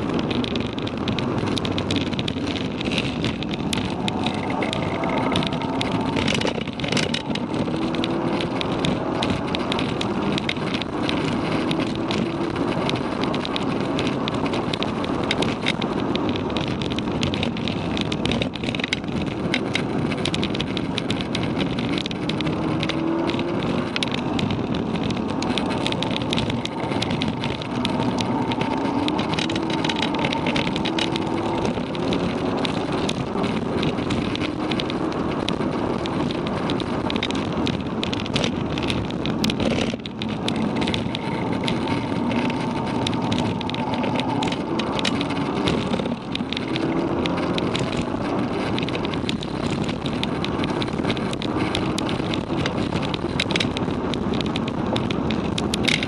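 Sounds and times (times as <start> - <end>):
car engine accelerating: 0.0 - 55.8
road and wind noise: 0.0 - 56.0.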